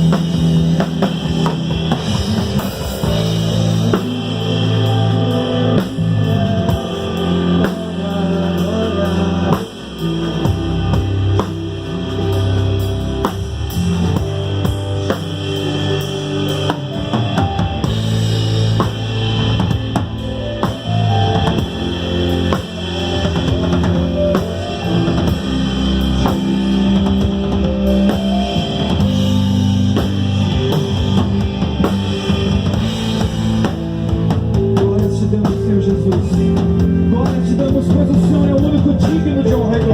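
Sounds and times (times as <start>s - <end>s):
bass drum beat: 0.0s - 39.9s
rock band playing: 0.0s - 39.9s.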